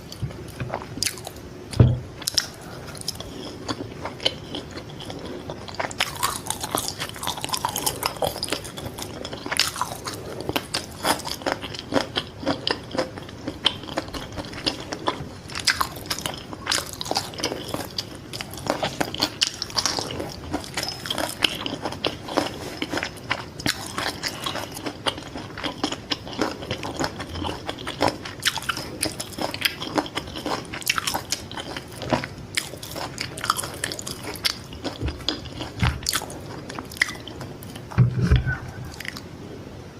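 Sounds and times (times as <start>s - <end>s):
crunchy wet chewing: 2.2s - 38.0s.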